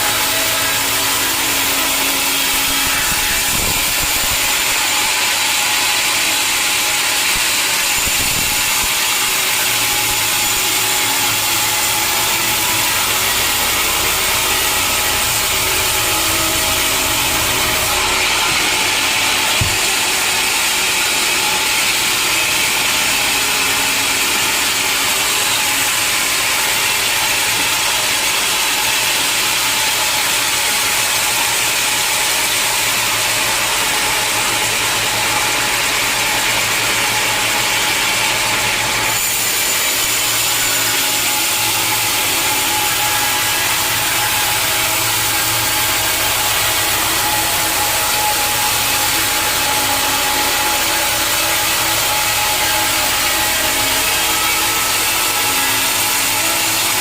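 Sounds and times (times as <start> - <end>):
machinery whine: 0.0 - 57.0
saw cutting through log: 0.0 - 57.0.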